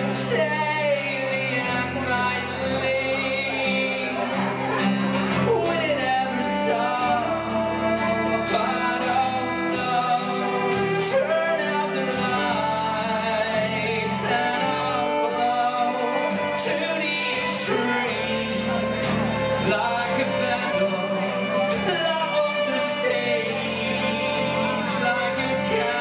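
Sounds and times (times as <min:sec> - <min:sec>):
fiddle melody: 0:00.0 - 0:26.0
strummed acoustic guitar: 0:00.0 - 0:26.0.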